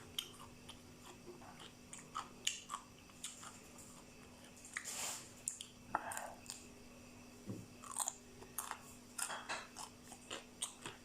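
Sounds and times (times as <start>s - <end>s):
person chewing crunchy food: 0.0s - 6.7s, 7.7s - 11.0s.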